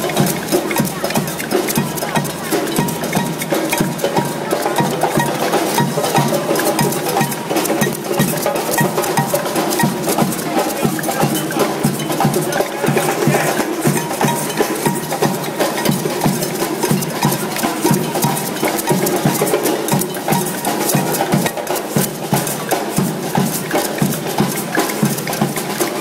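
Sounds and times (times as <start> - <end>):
percussion band drumming: 0.0 - 26.0
stick striking handheld instrument: 0.0 - 26.0.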